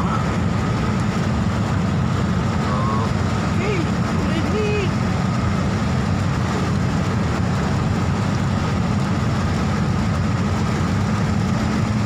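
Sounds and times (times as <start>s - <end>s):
faint hiss of wet road: 0.0s - 11.2s
vehicle engine and tyre noise: 0.0s - 12.0s.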